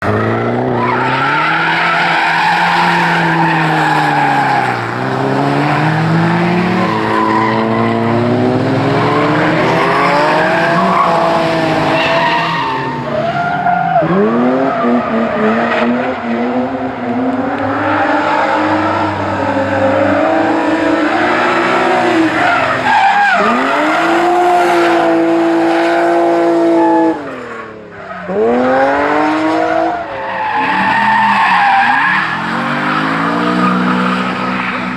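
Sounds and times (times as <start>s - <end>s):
car engine revving hard: 0.0s - 34.9s.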